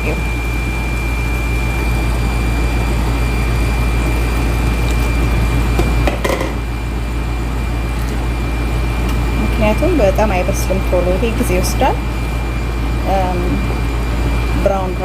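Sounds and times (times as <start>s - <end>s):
appliance electrical hum: 0.0s - 15.0s
high-pitched appliance whine: 0.0s - 15.0s.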